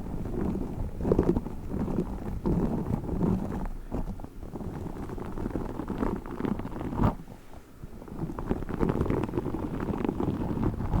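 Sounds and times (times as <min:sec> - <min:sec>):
squishy balls crackling and rubbing: 0:00.0 - 0:11.0.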